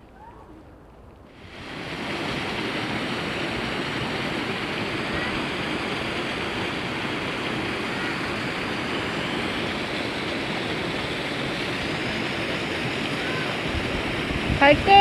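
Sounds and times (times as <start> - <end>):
steady rushing noise: 1.2 - 15.0.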